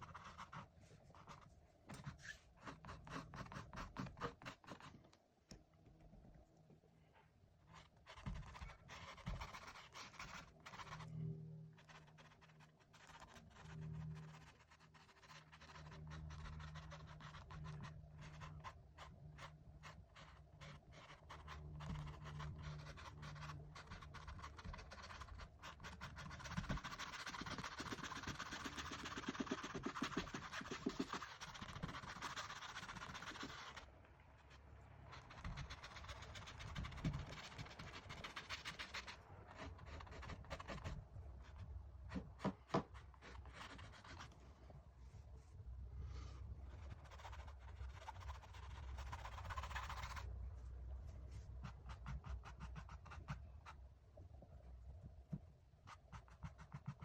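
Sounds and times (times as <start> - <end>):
paintbrush scratching on canvas: 0.0 - 4.9, 7.7 - 44.4, 46.7 - 50.4, 51.0 - 53.9, 55.8 - 57.0.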